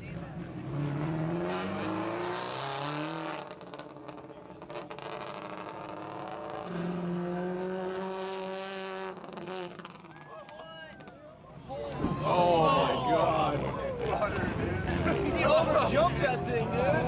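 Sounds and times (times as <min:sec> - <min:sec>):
car engine accelerating hard: 0:00.0 - 0:10.2, 0:12.2 - 0:17.0.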